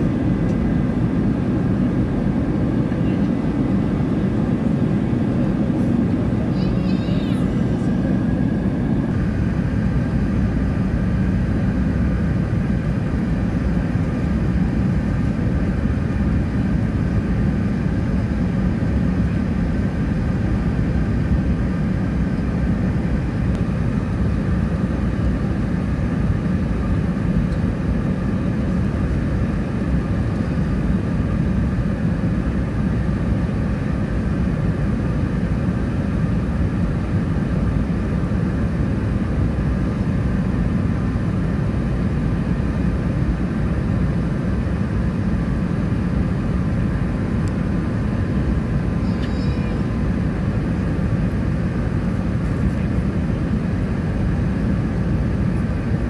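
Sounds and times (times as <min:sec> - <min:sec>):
faint steady hum: 0:00.0 - 0:56.0
jet engines rumbling: 0:00.0 - 0:56.0.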